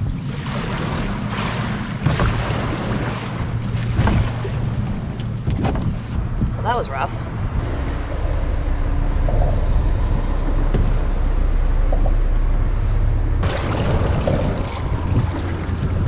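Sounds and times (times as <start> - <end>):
water rushing around hull: 0.0 - 16.0
wind rumbling on microphone: 0.0 - 16.0.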